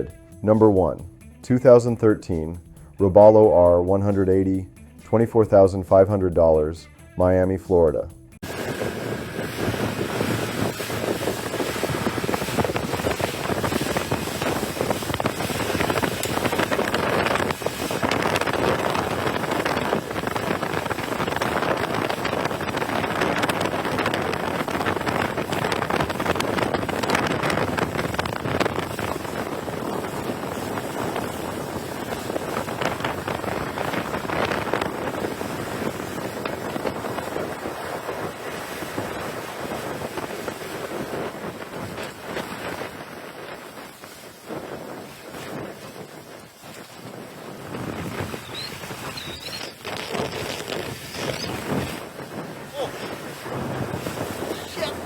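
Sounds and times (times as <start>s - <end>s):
water rushing along hull: 8.4s - 55.0s
wind buffeting microphone: 8.4s - 55.0s.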